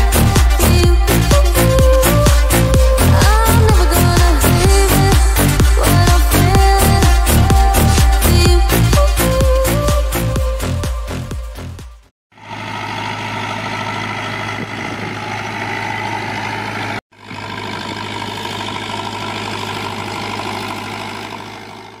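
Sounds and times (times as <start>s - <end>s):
tractor diesel engine running: 0.0s - 9.9s, 12.3s - 22.0s.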